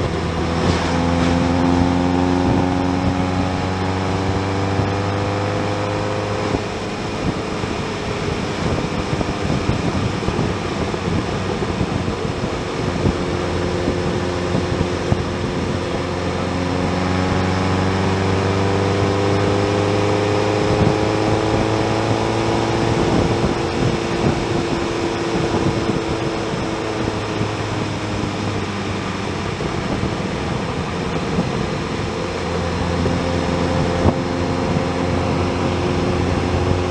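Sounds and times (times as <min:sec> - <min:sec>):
motorcycle engine cruising: 0:00.0 - 0:36.9
wind and road noise: 0:00.0 - 0:36.9.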